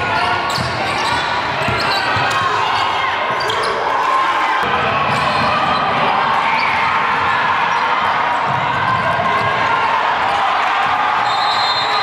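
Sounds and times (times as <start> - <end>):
crowd voices echoing: 0.0 - 12.0.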